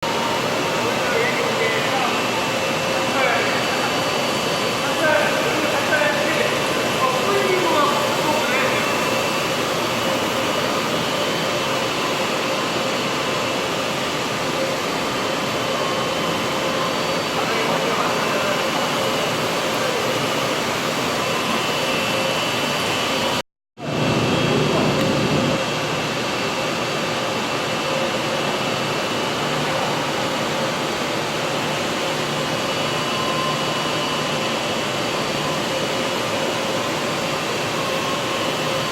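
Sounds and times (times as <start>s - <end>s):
floor scrubber motors whirring: 0.1s - 38.9s.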